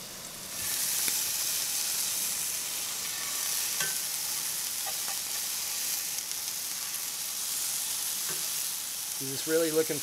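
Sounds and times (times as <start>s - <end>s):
scallops sizzling in skillet: 0.0s - 10.0s.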